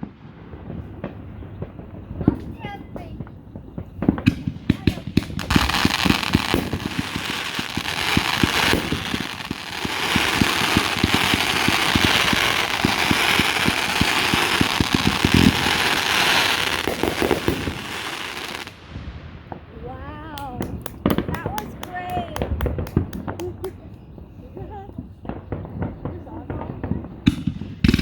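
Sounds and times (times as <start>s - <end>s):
fireworks bangs and pops: 0.0s - 28.0s
fireworks crackling: 0.0s - 28.0s.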